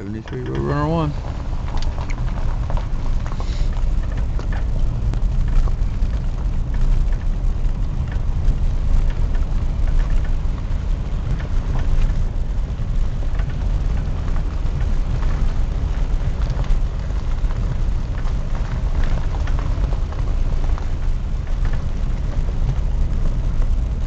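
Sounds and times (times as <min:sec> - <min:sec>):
road rumble inside car: 0:00.0 - 0:24.0
small rattles and knocks: 0:00.0 - 0:24.0.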